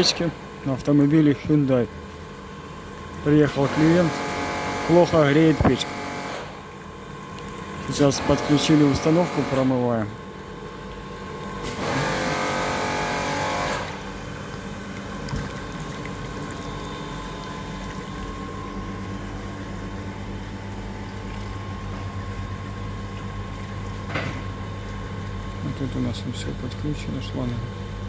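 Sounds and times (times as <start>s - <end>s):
pump humming: 0.0s - 28.0s.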